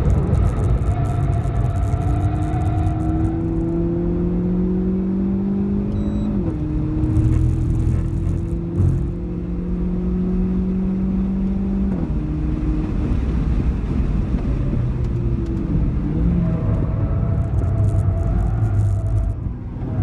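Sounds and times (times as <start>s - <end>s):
car engine pulling hard: 0.0s - 20.0s.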